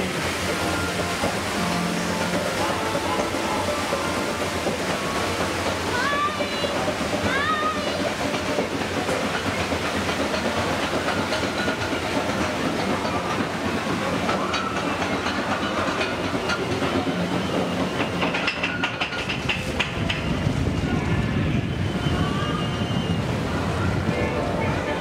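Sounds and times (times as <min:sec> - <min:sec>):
ride boat rattling and rushing: 0:00.0 - 0:25.0.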